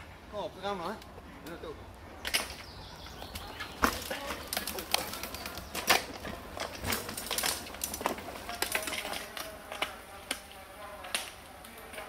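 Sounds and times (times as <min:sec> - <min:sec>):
mountain bike on dirt trail: 0:02.2 - 0:12.0.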